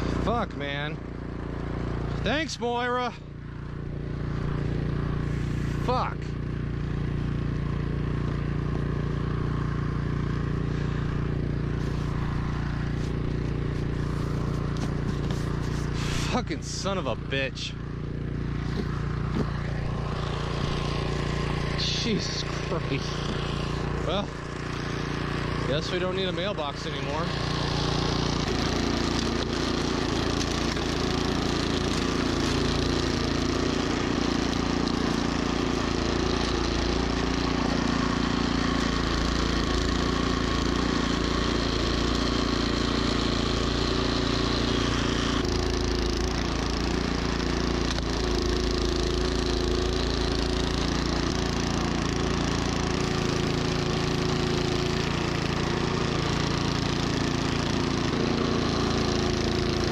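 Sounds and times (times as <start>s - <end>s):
auger churning snow: 0.0s - 59.9s
snowblower engine running: 0.0s - 59.9s.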